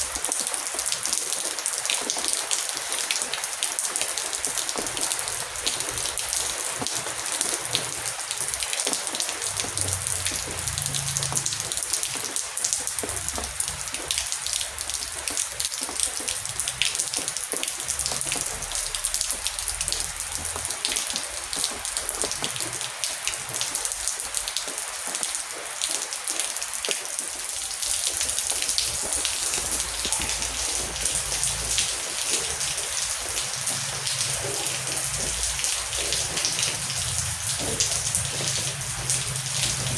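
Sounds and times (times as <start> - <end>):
heavy rain hissing: 0.0 - 39.9
raindrops pattering: 0.0 - 39.9.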